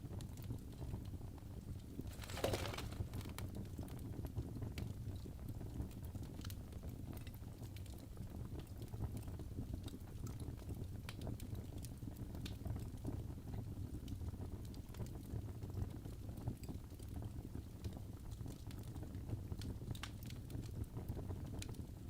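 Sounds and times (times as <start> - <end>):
logs crackling in fireplace: 1.6 - 13.3, 13.9 - 22.0.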